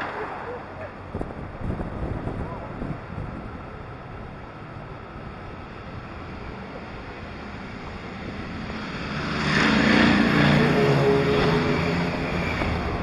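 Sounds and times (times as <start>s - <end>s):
motorcycle road noise: 0.0s - 13.0s
wind rushing over microphone: 0.0s - 13.0s.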